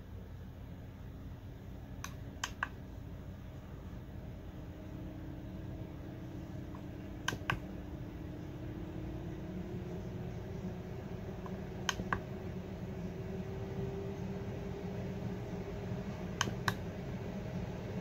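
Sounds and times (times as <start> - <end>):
duct fan humming: 0.0 - 18.0.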